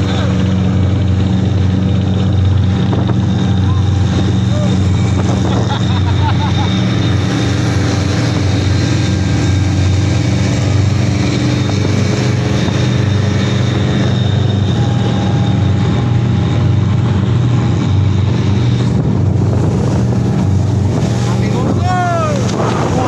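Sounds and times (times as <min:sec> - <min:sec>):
boat engine droning: 0:00.0 - 0:23.0
water rushing along hull: 0:00.0 - 0:23.0.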